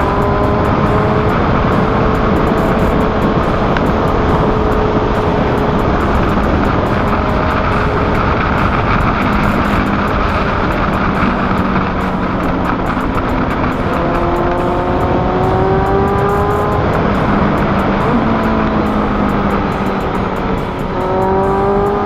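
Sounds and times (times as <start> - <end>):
motorcycle engine accelerating: 0.0 - 22.0
wind rush on microphone: 0.0 - 22.0.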